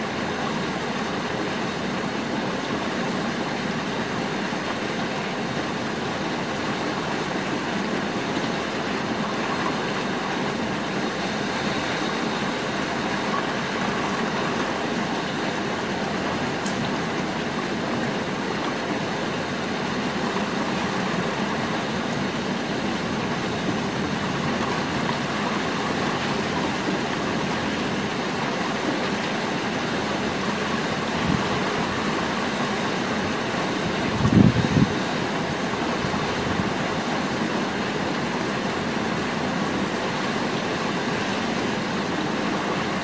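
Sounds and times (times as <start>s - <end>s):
rain falling on rooftops: 0.0s - 43.0s.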